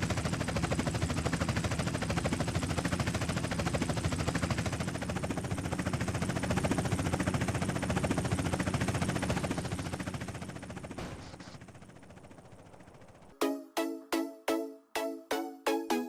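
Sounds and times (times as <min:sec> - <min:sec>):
helicopter rotor blades beating: 0:00.0 - 0:16.0.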